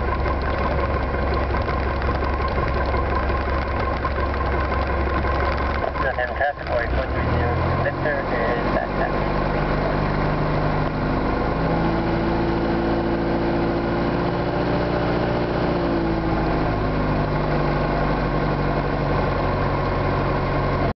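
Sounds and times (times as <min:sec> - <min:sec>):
propeller aircraft engine humming: 0:00.0 - 0:20.9.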